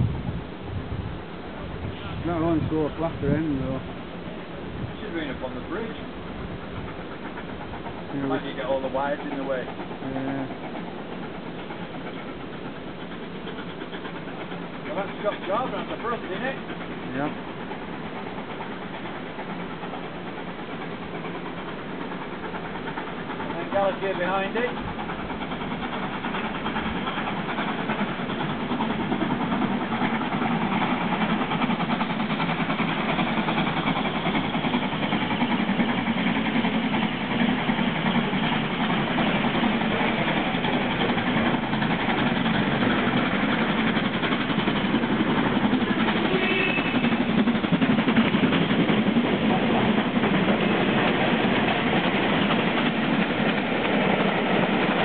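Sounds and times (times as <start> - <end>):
steam trains rumbling past: 0.0 - 55.0.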